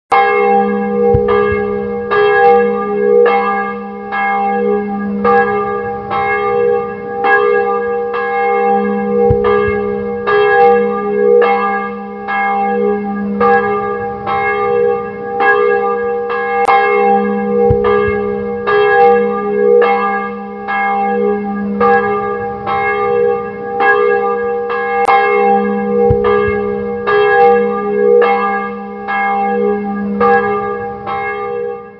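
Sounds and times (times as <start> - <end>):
church bells pealing: 0.1 - 31.9
deep bell stroke: 0.1 - 31.9.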